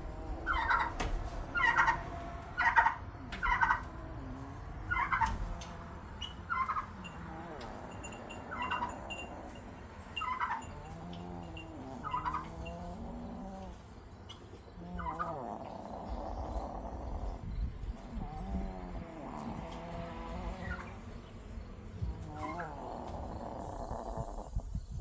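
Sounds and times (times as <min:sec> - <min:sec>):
chicken snoring: 0:00.0 - 0:25.0.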